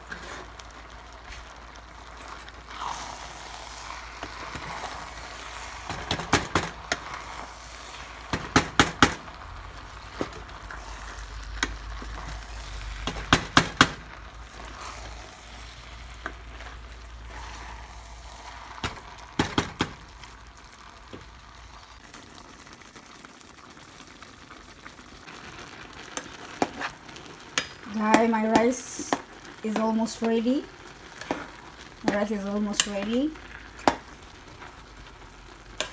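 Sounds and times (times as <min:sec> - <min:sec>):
stirring clicks and knocks: 0:00.0 - 0:22.2, 0:25.3 - 0:35.9
food sizzling in a pot: 0:00.0 - 0:35.9.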